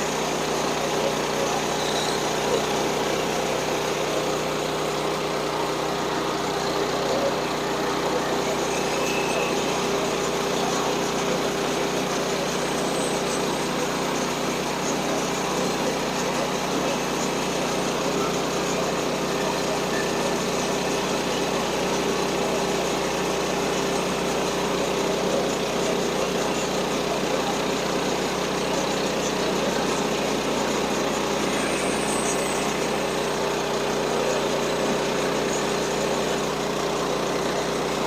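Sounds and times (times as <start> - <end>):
small gas engine running steadily: 0.0 - 38.0.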